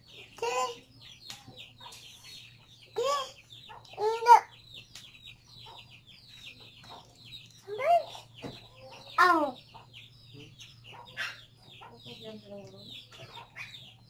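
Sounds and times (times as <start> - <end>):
chicken calls: 0.0 - 14.0
chickens peeping: 0.0 - 14.0.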